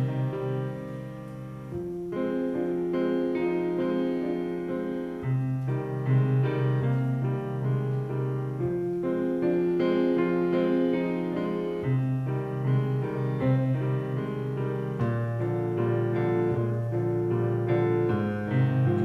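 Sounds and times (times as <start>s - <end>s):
grand piano chords: 0.0s - 19.0s.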